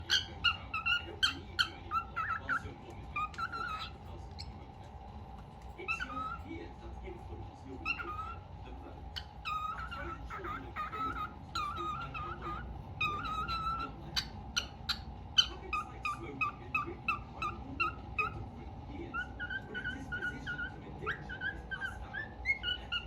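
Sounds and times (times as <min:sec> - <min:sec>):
cockatiel whistling: 0:00.0 - 0:04.5, 0:05.9 - 0:06.4, 0:07.8 - 0:08.4, 0:09.2 - 0:18.4, 0:19.1 - 0:23.0.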